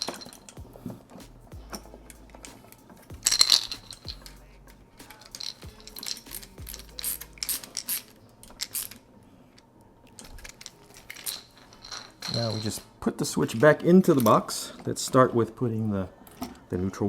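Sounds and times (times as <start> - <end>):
screwdriver and wire clinking on metal: 0.0 - 9.0, 10.2 - 15.3.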